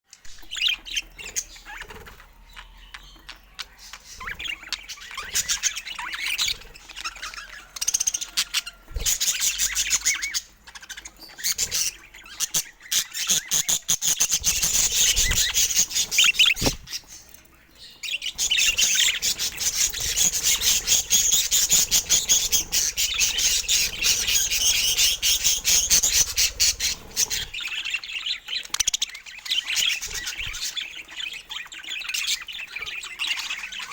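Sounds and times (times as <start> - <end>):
budgerigars chattering and chirping: 0.2 - 33.9.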